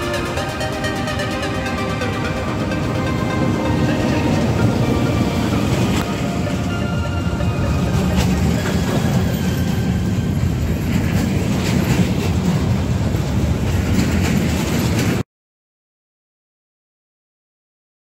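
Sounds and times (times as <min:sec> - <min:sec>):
train wheels rumbling on rails: 0:00.0 - 0:15.2.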